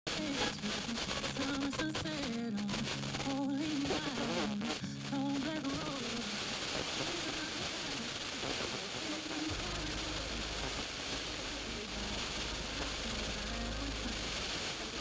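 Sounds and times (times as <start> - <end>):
music with singing over radio: 0.1 - 15.0
radio hiss: 0.1 - 15.0.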